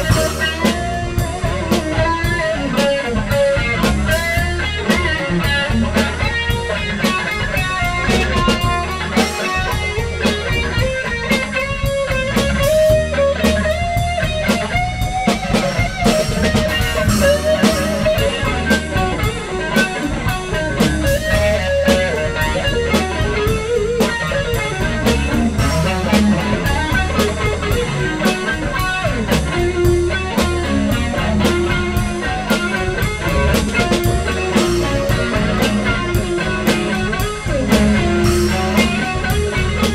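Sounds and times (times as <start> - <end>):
drum kit: 0.0 - 39.9
electric guitar lead: 0.0 - 39.9.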